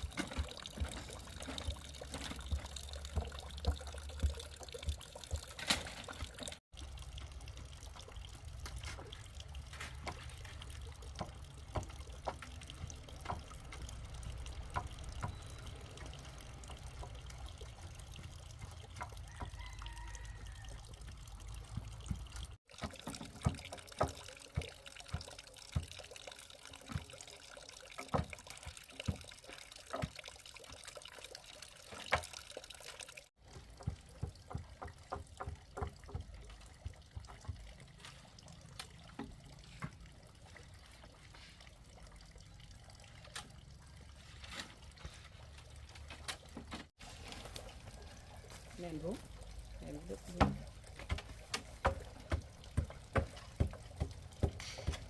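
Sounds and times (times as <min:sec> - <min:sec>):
water trickling and pouring: 0:00.0 - 0:55.0.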